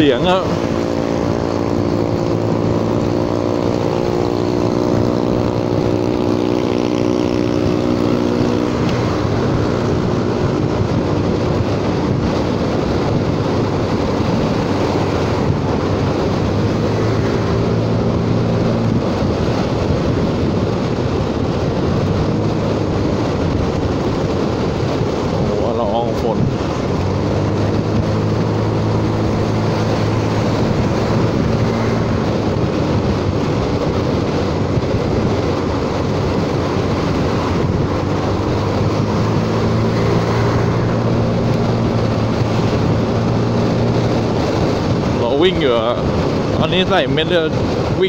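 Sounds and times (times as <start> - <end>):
scooter engine at high revs: 0.0 - 48.0
wind noise on microphone: 0.0 - 48.0.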